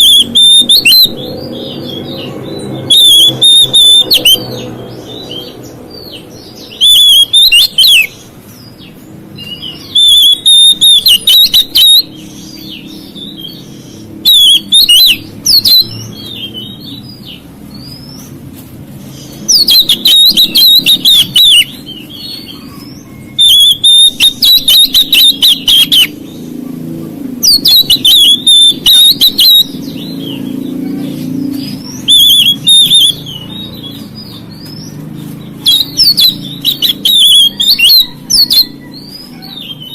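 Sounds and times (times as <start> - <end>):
bird singing rapid notes: 0.0 - 39.9.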